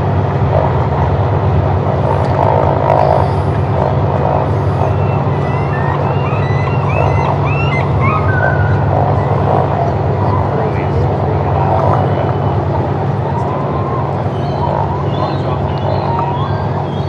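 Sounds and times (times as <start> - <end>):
radial aircraft engine running: 0.0 - 17.0.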